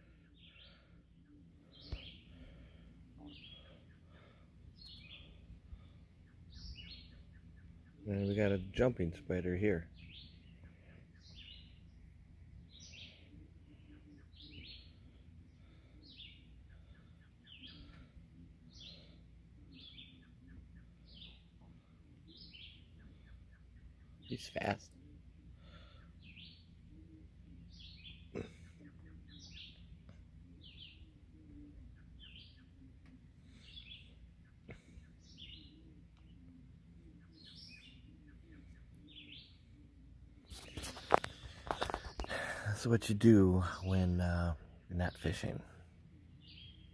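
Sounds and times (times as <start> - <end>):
songbird calls: 0.0 - 42.5, 46.2 - 46.9
faint bird chirping: 0.0 - 46.9
low steady background rumble: 0.0 - 46.9.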